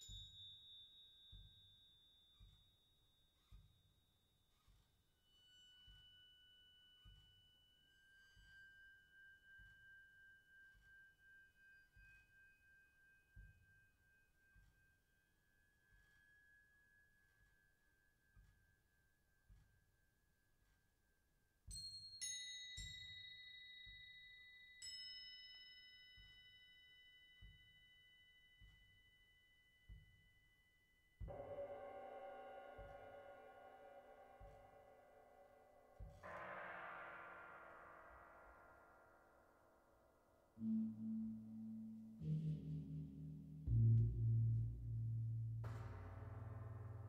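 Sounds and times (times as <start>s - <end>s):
ringing metal percussion tones: 0.0s - 3.8s, 5.1s - 18.9s, 21.7s - 47.0s.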